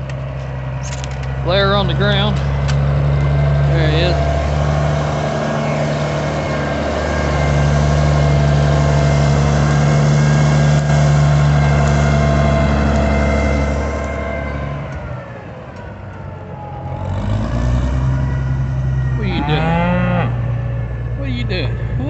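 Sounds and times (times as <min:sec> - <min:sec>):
tractor engine running: 0:00.0 - 0:16.9, 0:17.9 - 0:22.0.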